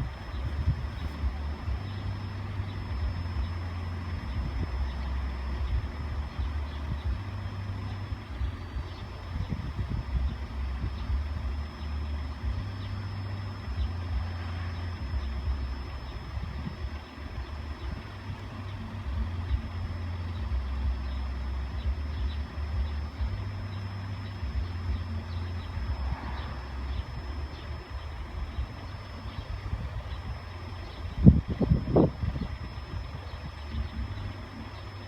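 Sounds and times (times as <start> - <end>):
vehicles idling: 0.0 - 35.0.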